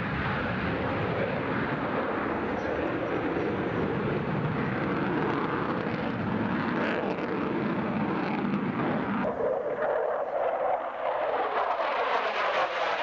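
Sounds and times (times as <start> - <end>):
aircraft engines roaring flyby: 0.0 - 13.0.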